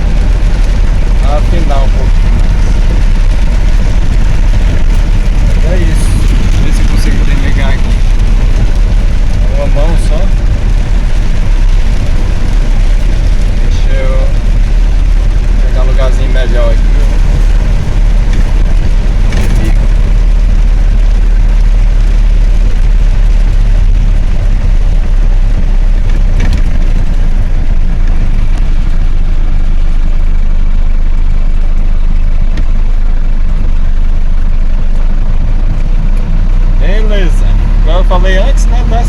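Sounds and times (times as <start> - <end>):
truck driving on wet road: 0.0 - 39.0.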